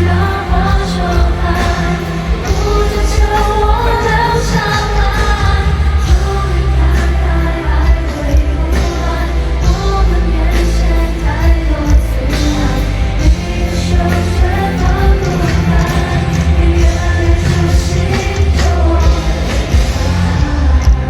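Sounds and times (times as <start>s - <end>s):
heavy bass and drum beats: 0.0s - 21.0s
person singing over a band: 0.0s - 21.0s.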